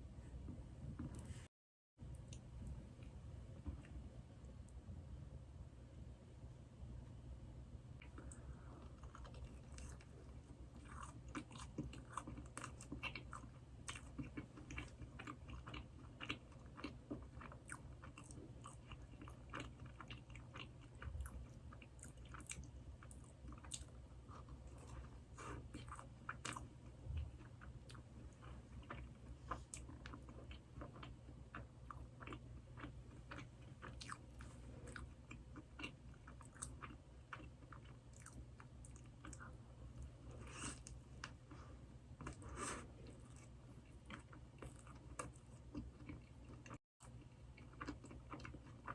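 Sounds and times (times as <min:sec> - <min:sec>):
low steady hum: 0:00.0 - 0:48.9
close chewing and mouth clicks: 0:08.0 - 0:41.6, 0:42.2 - 0:48.9.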